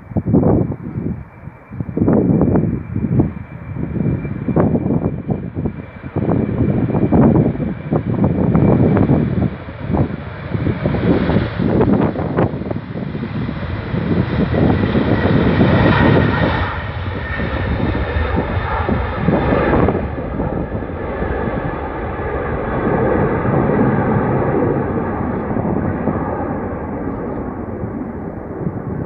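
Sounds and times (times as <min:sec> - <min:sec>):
jet engine roar: 0:00.0 - 0:29.0.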